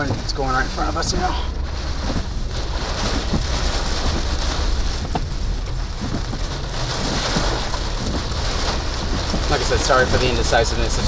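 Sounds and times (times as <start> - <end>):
heavy rain on car roof: 0.0 - 11.0
low rumble: 0.0 - 11.0.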